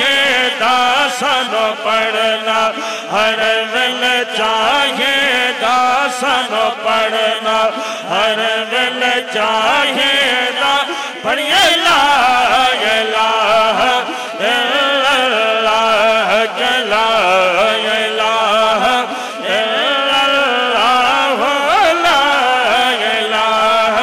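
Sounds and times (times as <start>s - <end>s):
men chanting devotional song: 0.0s - 24.0s.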